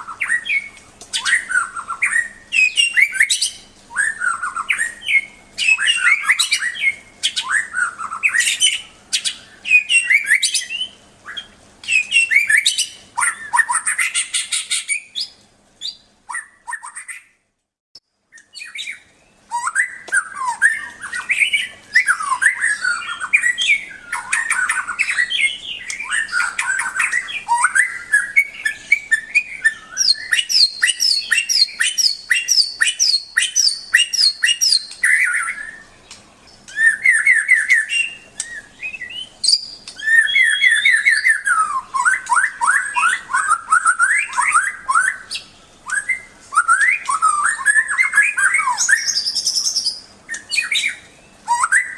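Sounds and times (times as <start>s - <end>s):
songbird singing whistled phrases: 0.0s - 17.4s, 18.3s - 51.9s.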